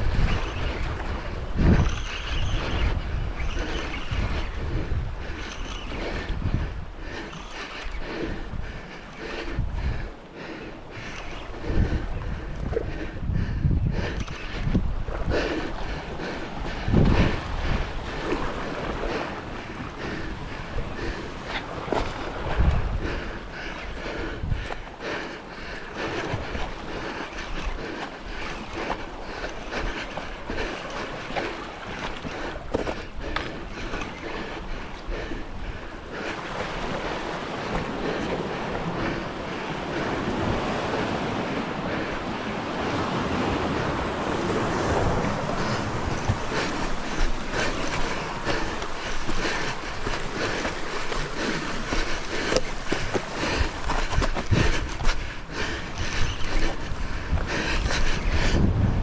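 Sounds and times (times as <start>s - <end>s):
sea waves washing on rocks: 0.0s - 58.6s
wind buffeting microphone: 0.0s - 59.0s.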